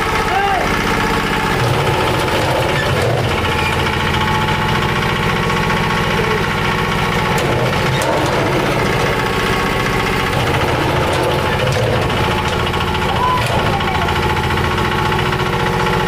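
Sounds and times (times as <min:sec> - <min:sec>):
small diesel engine running: 0:00.0 - 0:16.0.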